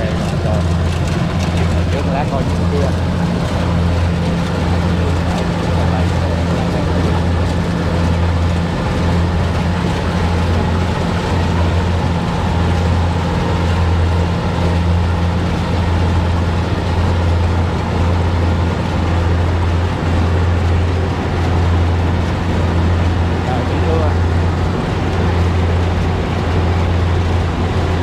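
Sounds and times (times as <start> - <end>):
combine harvester engine droning: 0.0 - 28.0.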